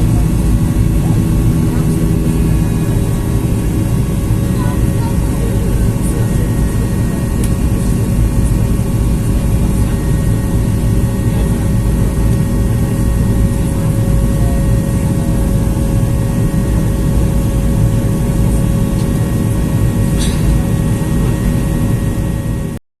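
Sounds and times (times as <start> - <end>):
airflow over fuselage: 0.0 - 22.7
jet engine rumble: 0.0 - 22.8.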